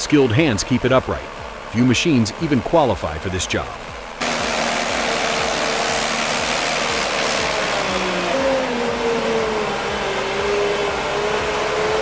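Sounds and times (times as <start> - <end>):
forwarder engine under load: 0.0 - 12.0
steady rushing noise: 0.0 - 12.0.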